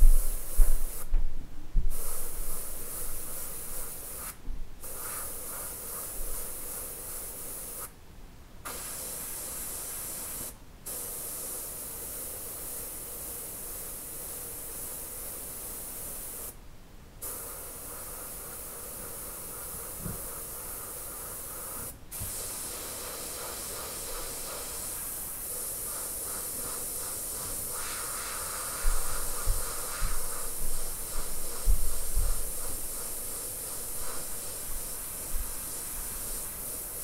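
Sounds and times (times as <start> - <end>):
airbrush spraying hiss: 0.0 - 1.2, 1.8 - 8.0, 8.6 - 16.6, 17.2 - 37.0.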